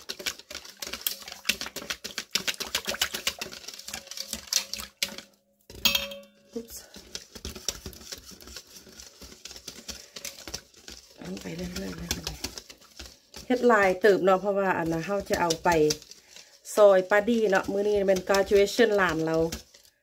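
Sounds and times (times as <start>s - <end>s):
whisk beating batter in metal bowl: 0.0s - 20.0s.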